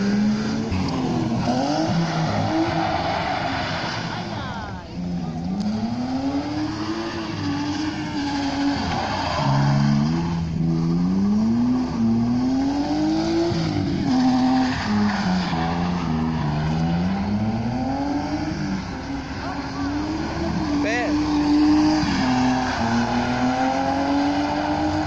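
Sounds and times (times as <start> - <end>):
car engine revving: 0.0 - 25.0
tyres sliding on wet asphalt: 0.0 - 25.0.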